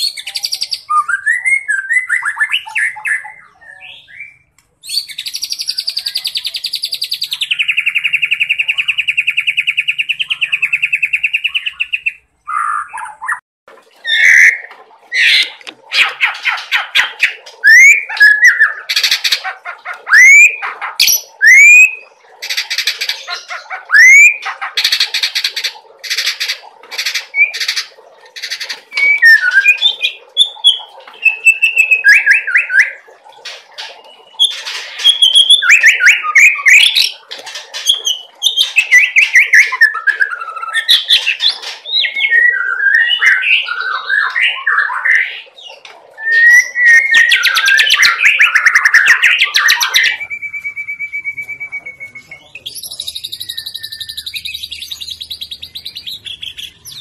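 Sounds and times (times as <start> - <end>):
bird chattering and whistles: 0.0 - 13.4, 14.1 - 33.1, 33.7 - 57.0.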